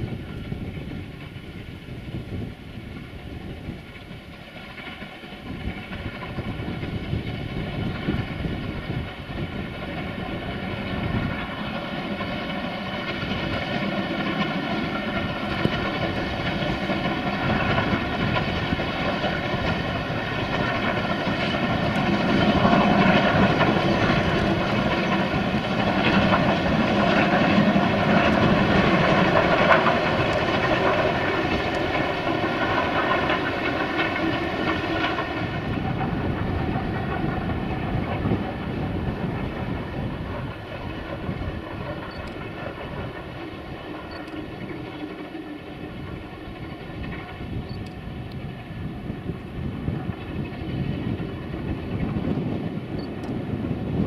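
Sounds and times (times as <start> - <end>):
steam locomotive exhaust beats: 0.0 - 54.0
train coaches running: 0.0 - 54.0.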